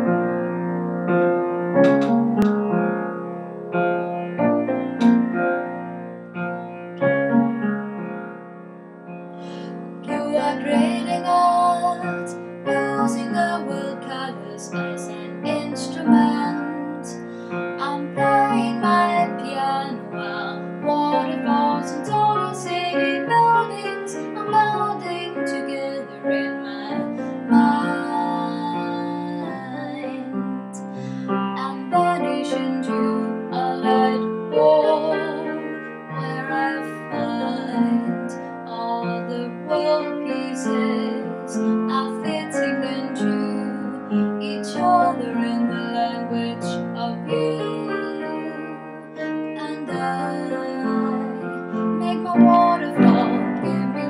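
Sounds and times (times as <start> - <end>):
piano chords: 0.0 - 54.0
woman singing: 9.5 - 54.0.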